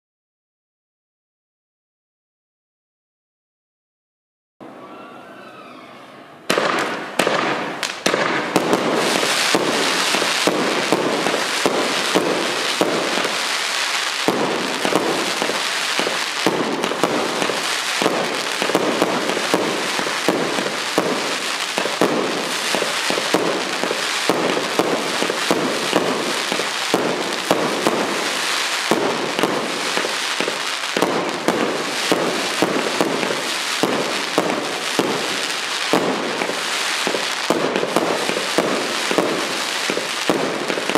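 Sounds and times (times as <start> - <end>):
fireworks barrage crackling: 6.5 - 40.9.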